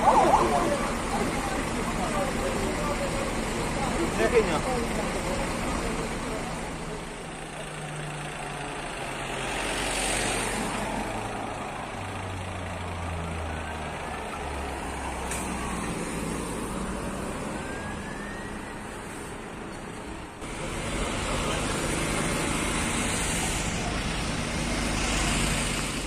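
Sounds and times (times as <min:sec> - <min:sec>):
fire engine diesel engine: 0:00.0 - 0:26.0
tyre and road noise: 0:00.0 - 0:26.0.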